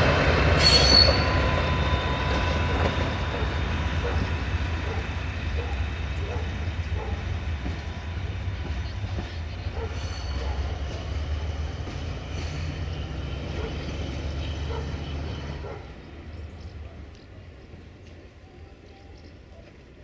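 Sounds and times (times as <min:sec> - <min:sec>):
locomotive diesel engine drone: 0:00.0 - 0:17.3.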